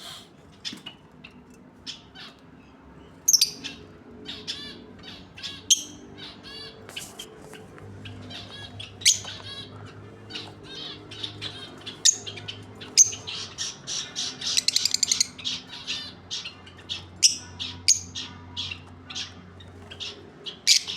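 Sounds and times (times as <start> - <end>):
lovebirds chirping and squawking: 0.0 - 20.9
rapid buzzy bird chatter: 0.0 - 20.9.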